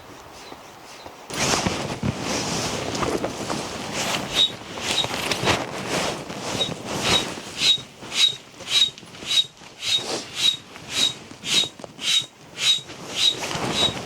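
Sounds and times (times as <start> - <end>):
footsteps crunching in snow: 0.0 - 14.0.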